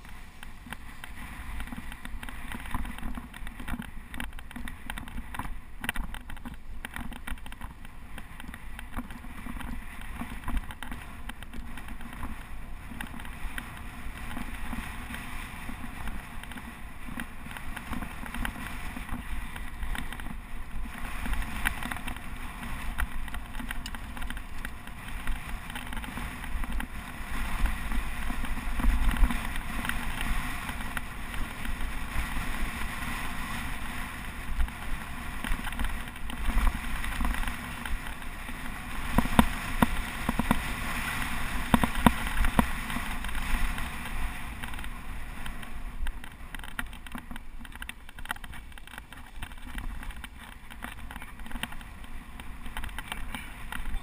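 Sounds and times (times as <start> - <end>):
bike tyres rumbling: 0.0 - 54.0
wind buffeting microphone: 0.0 - 54.0.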